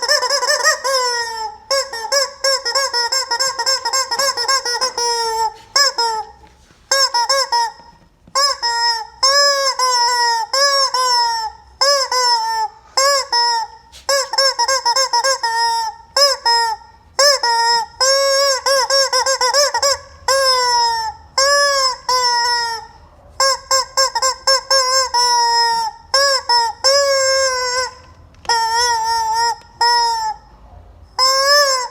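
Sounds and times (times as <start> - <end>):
rubber chicken squeak toy squawking: 0.0 - 31.9.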